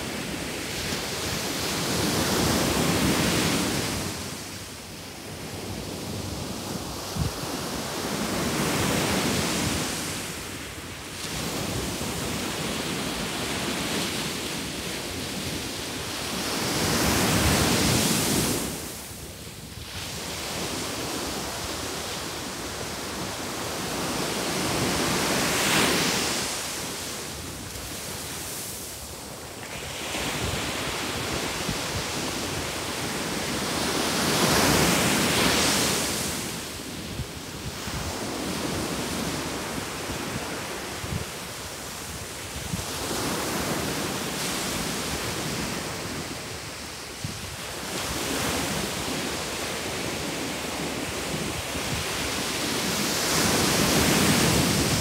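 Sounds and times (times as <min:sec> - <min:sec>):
ocean surf breaking on beach: 0:00.0 - 0:55.0.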